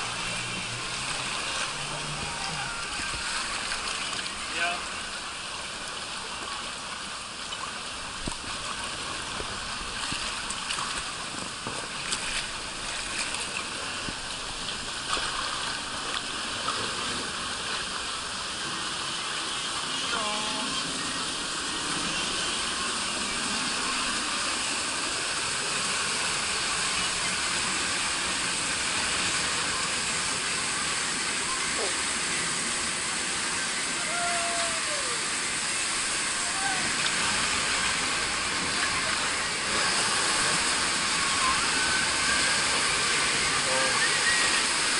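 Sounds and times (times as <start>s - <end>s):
water rushing and sloshing: 0.0s - 44.9s.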